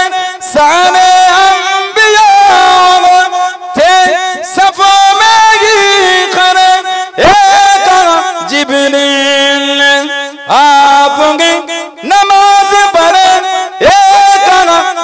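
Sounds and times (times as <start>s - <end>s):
wordless devotional melody: 0.0s - 15.0s.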